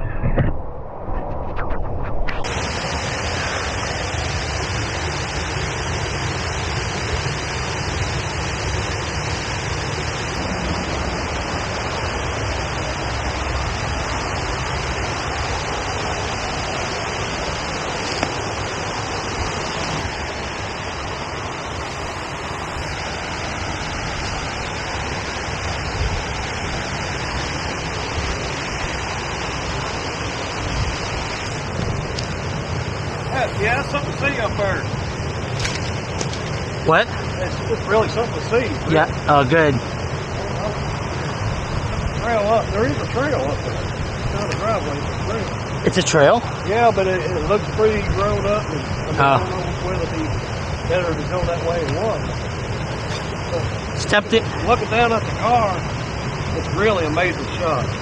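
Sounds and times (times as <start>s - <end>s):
waterfall rushing: 2.3s - 58.0s.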